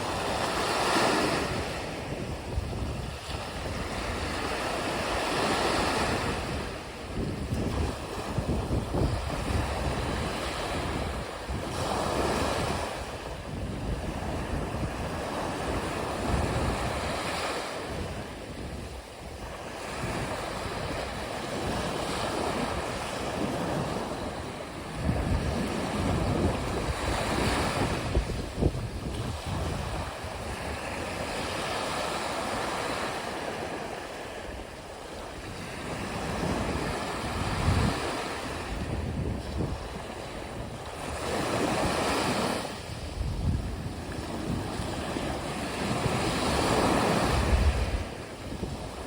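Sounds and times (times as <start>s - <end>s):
sea waves breaking on shore: 0.0s - 49.0s
wind buffeting microphone: 0.0s - 49.0s.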